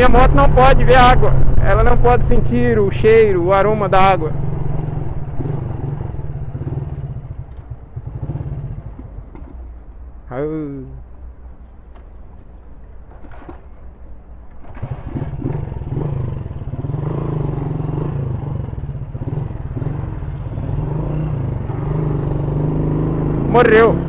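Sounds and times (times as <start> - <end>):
motorcycle engine starting and running: 0.0 - 10.0, 13.0 - 24.0.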